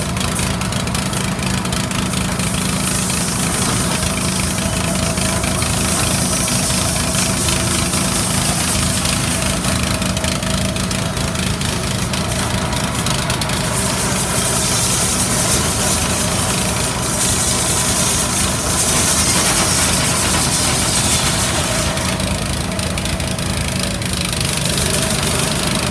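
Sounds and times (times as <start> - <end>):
small petrol engine running: 0.0 - 25.9.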